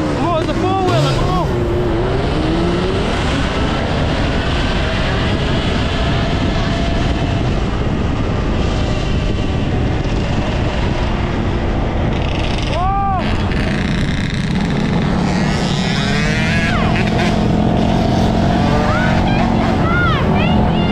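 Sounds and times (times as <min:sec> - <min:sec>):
wind noise on microphone: 0:00.0 - 0:20.9.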